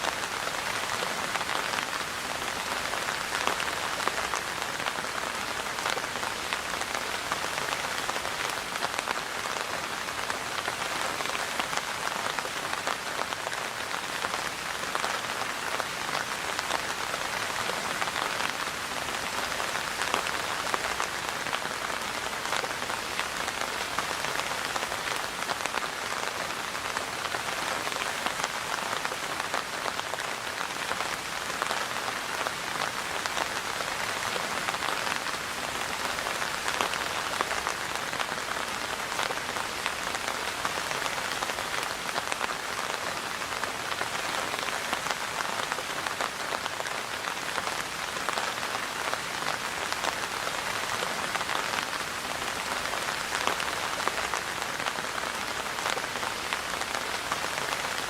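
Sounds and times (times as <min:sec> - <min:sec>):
rain drops ticking on surface: 0:00.0 - 0:58.0.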